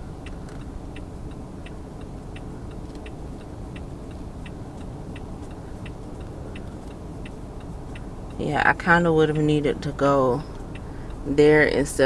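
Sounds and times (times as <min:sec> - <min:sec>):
car engine running: 0:00.0 - 0:12.0
car turn signal clicking: 0:00.0 - 0:12.0.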